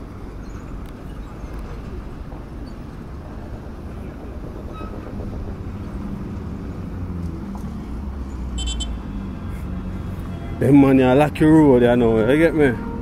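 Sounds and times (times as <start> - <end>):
traffic rumbling on unpaved road: 0.0 - 13.0.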